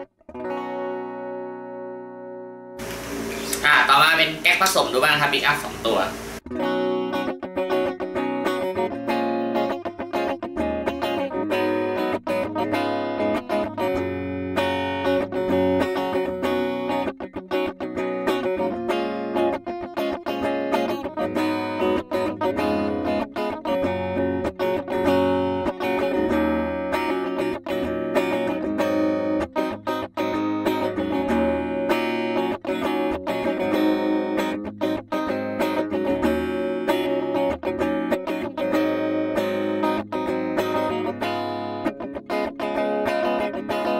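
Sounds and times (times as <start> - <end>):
clean electric guitar chords: 0.0 - 43.9.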